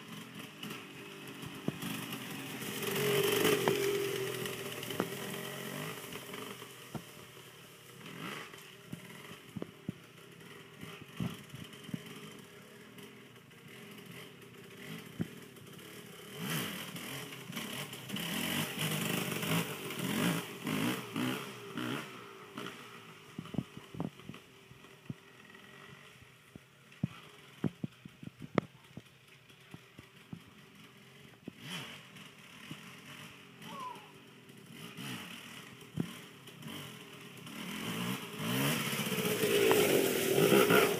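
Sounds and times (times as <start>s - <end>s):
dirt bike engine revving: 0.0s - 26.2s, 30.7s - 40.9s.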